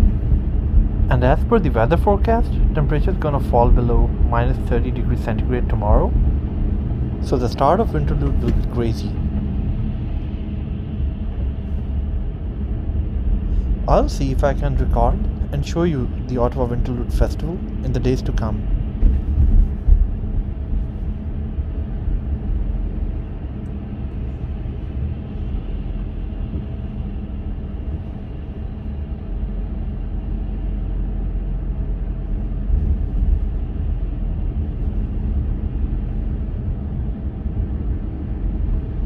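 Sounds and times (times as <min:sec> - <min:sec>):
road and engine rumble: 0:00.0 - 0:39.0.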